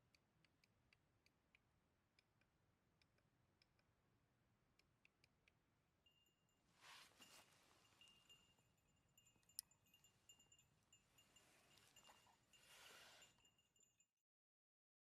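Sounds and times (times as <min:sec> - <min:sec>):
faint irregular clicks: 0:00.0 - 0:13.7.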